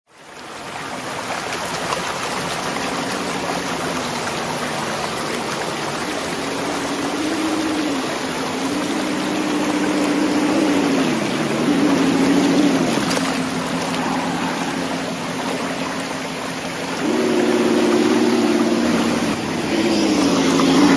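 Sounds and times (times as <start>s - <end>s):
stream splashing over rock: 0.1s - 20.9s.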